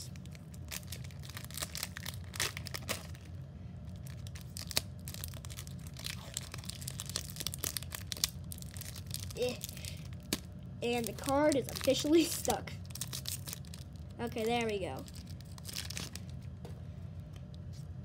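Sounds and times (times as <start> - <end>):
foil wrapper crinkling and tearing: 0.0 - 16.5.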